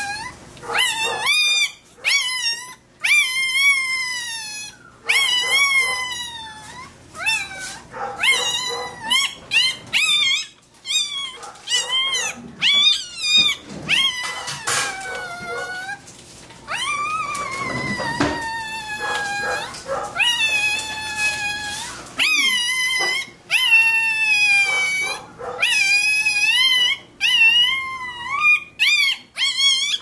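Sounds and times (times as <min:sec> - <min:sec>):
puppy squealing: 0:00.0 - 0:30.0.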